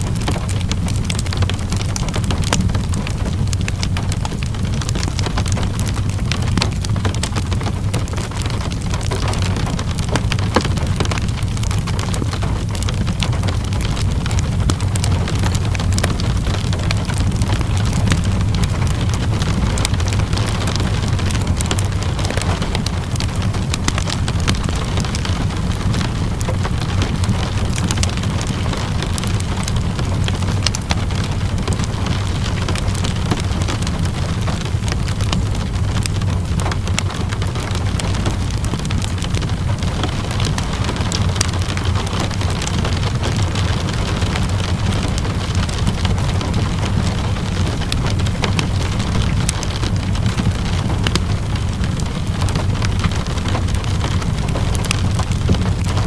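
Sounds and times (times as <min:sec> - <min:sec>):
low rumble: 0:00.0 - 0:56.0
steady rain: 0:00.0 - 0:56.0
wood fire crackling: 0:00.0 - 0:56.0.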